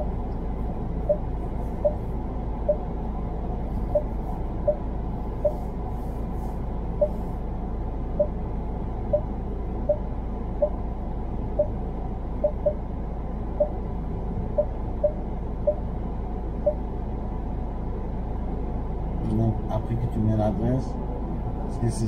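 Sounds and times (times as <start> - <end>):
car engine low rumble: 0.0 - 22.0.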